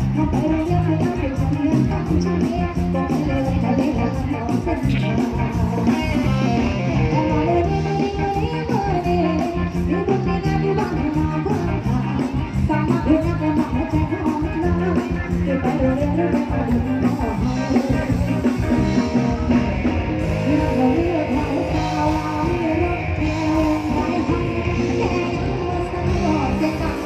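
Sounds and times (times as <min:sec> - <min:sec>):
drum kit beat: 0:00.0 - 0:27.0
guitar: 0:00.0 - 0:27.0
wavering melodic lead line: 0:00.0 - 0:27.0.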